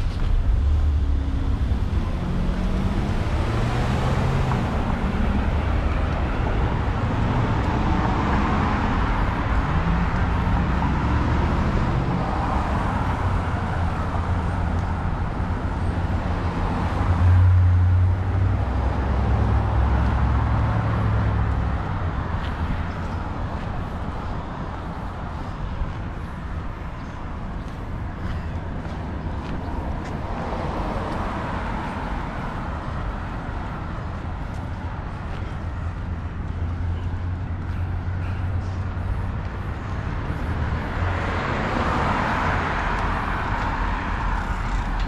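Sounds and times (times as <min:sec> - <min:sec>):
cars passing: 0:00.0 - 0:45.0
steady low traffic rumble: 0:00.0 - 0:45.0.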